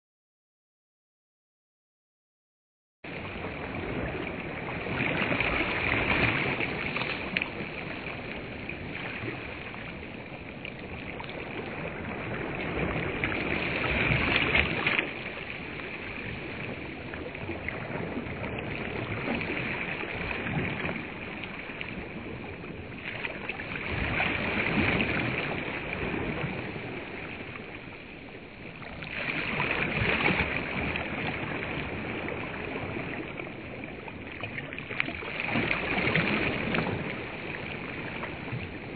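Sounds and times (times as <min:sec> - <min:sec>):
small waves washing on shore: 0:03.1 - 0:38.9.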